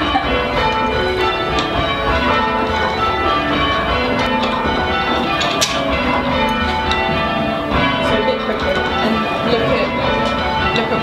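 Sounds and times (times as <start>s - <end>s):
church bells change ringing: 0.0s - 11.0s.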